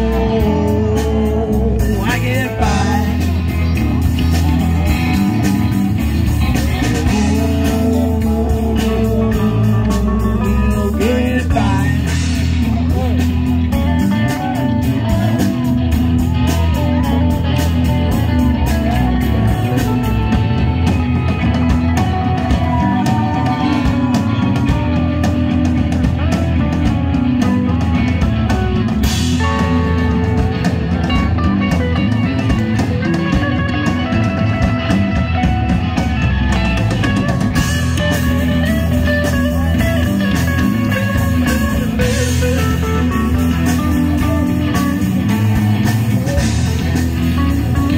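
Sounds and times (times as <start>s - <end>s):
bass guitar: 0.0s - 47.9s
drum kit: 0.0s - 47.9s
electric guitar lines: 0.0s - 47.9s.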